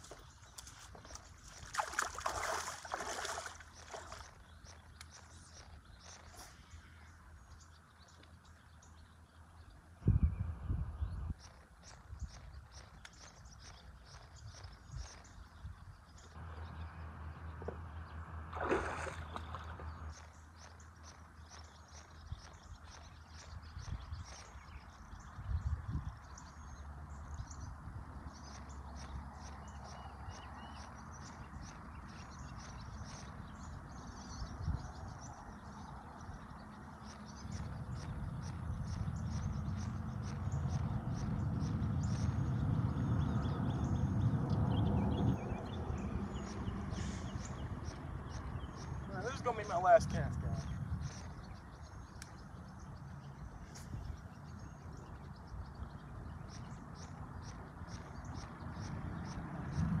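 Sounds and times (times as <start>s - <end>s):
birds chirping: 0.0s - 60.0s
wind rumble on microphone: 0.0s - 60.0s.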